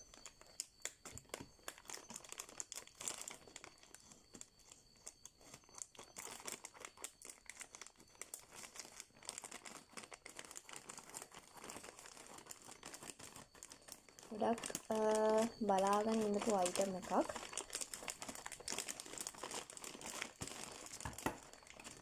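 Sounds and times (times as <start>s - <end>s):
packaging crinkling and tearing: 0.0s - 22.0s.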